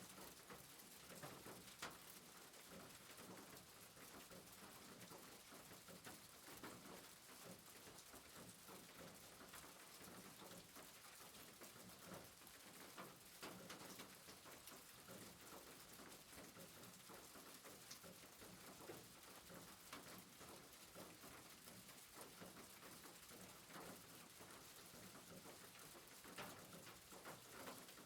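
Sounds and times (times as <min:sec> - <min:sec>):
soft rain hiss and patter: 0:00.0 - 0:28.0.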